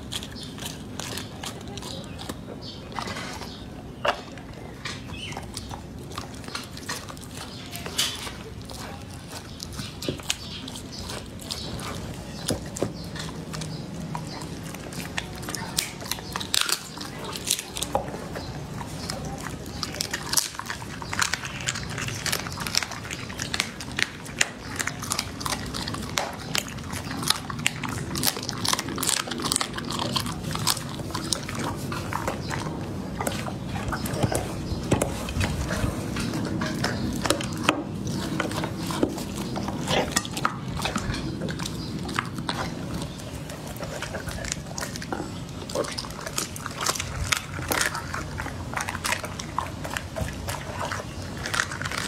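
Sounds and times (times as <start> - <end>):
dog crunching meat and bone: 0.0 - 52.0.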